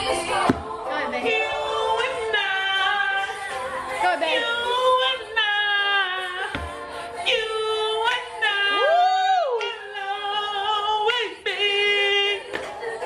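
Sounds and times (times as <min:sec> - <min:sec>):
person singing unaccompanied: 0:00.0 - 0:13.0.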